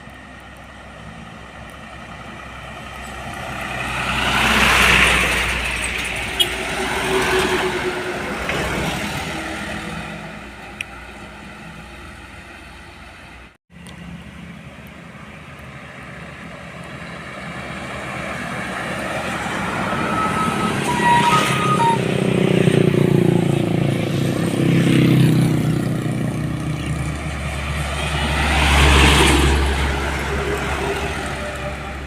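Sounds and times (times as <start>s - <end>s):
heavy truck engines passing: 0.0s - 32.0s.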